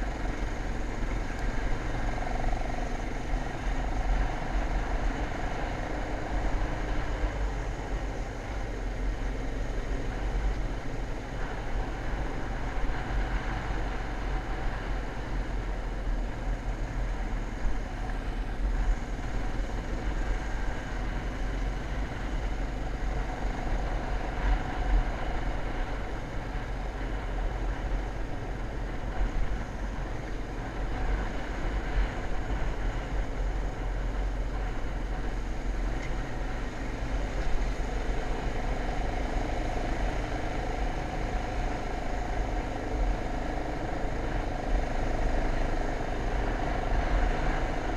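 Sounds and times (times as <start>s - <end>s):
wind rumble on microphone: 0.0s - 47.9s.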